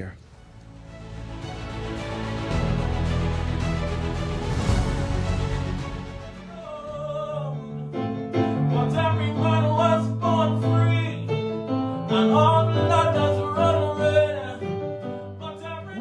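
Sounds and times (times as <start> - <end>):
piano-like chords: 0.0 - 16.0.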